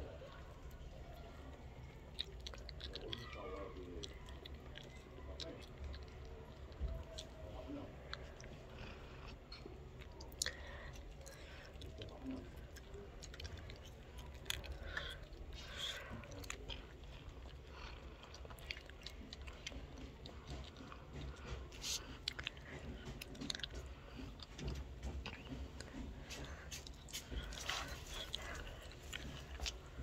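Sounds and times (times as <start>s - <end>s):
puppy crunching dry kibble: 0.0s - 30.0s.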